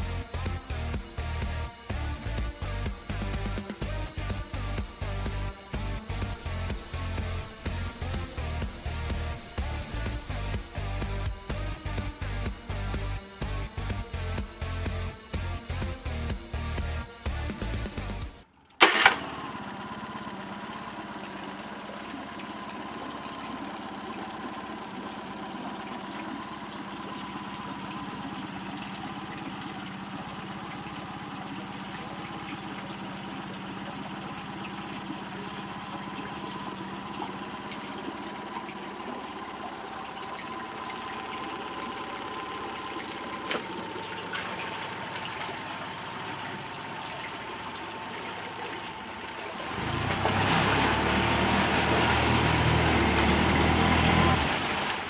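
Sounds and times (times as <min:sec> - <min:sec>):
outboard motor running: 0:00.0 - 0:55.0
propeller churning water: 0:00.0 - 0:55.0.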